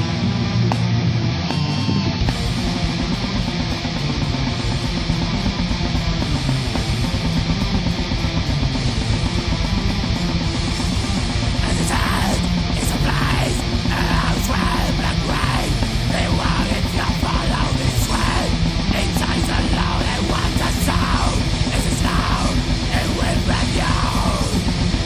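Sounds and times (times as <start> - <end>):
heavy metal band playing: 0.0 - 25.0
fast dense drums: 2.2 - 25.0.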